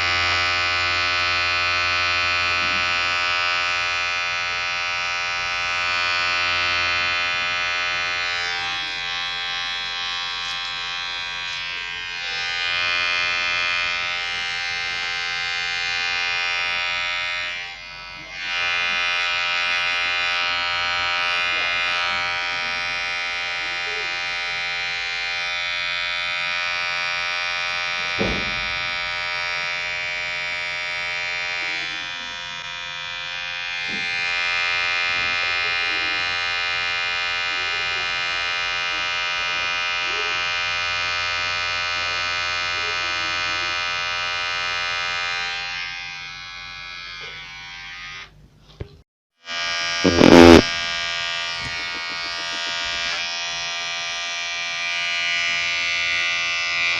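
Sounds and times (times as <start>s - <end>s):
electric hair clipper buzzing: 0.0s - 56.9s.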